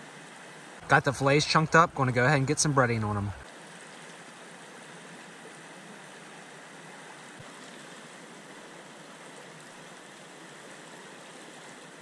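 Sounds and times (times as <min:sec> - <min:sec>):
creek flowing over rocks: 0:00.0 - 0:12.0.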